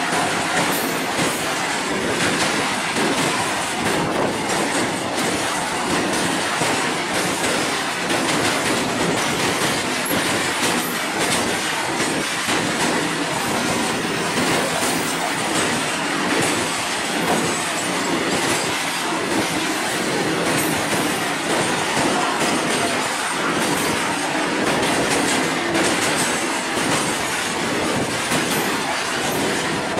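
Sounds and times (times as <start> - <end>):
freight train wheels on rails: 0.0 - 29.9.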